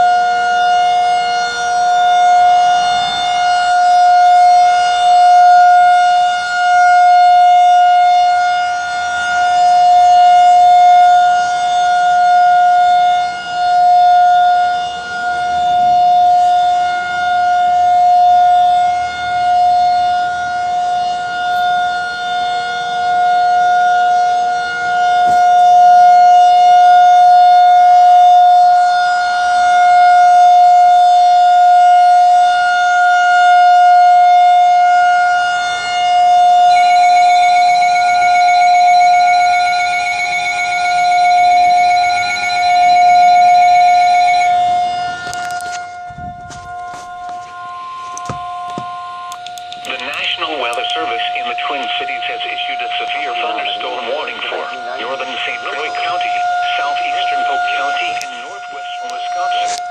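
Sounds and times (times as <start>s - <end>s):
outdoor warning siren tone: 0.0s - 59.9s.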